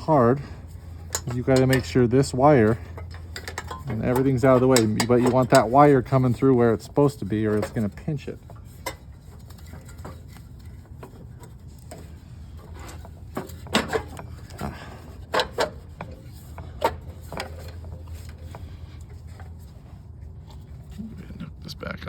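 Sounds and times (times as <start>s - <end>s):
clunks and knocks of engine cover: 0.0s - 19.8s
low steady hum: 0.0s - 22.0s.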